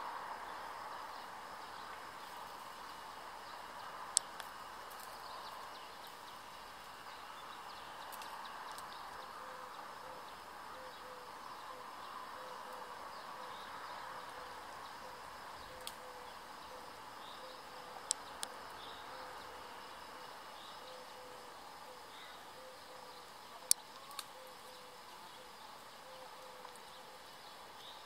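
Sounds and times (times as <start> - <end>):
faint hum and hiss: 0.0 - 28.0.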